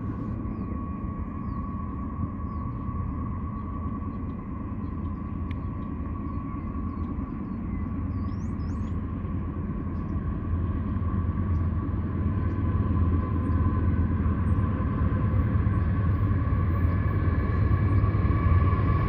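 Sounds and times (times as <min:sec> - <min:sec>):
freight train rumbling: 0:00.0 - 0:19.0
steady whine: 0:00.0 - 0:19.0.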